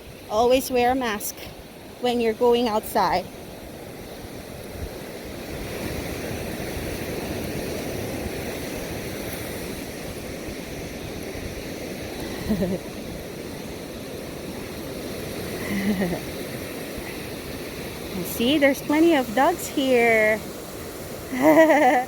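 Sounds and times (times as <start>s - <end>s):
surf washing on sandy beach: 0.0s - 22.0s.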